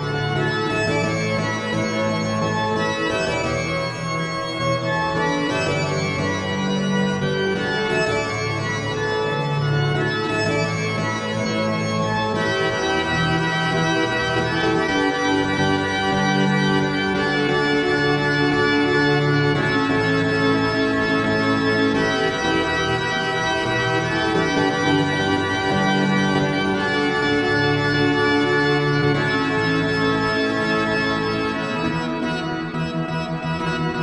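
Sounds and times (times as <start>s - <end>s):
organ music: 0.0s - 34.0s.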